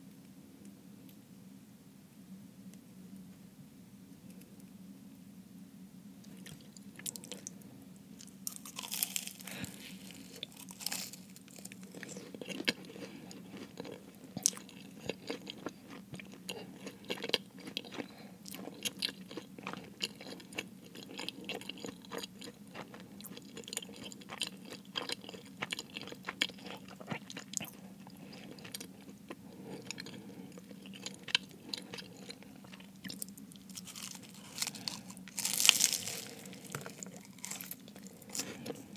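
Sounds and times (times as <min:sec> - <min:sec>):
chewing crunchy pastry: 0:06.2 - 0:38.9.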